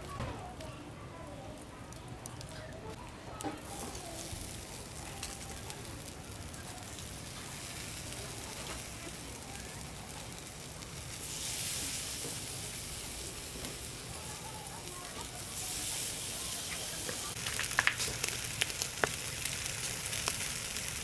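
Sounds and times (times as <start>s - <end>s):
meat sizzling on grill: 0.2s - 21.0s.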